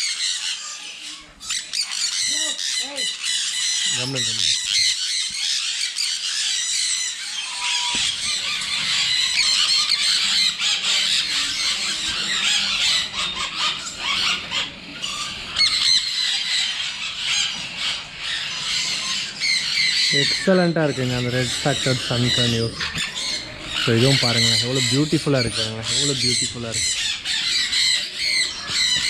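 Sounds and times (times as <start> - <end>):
parrots screaming: 0.0 - 29.0.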